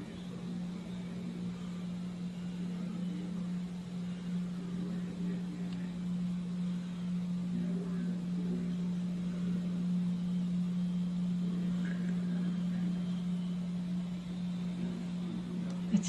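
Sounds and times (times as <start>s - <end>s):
faint indistinct voices: 0.0s - 16.0s
low electrical hum: 0.0s - 16.0s.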